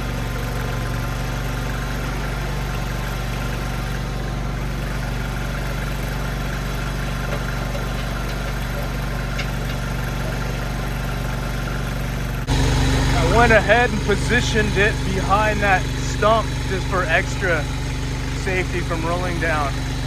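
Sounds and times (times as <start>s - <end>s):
skid steer engine running: 0.0s - 20.0s.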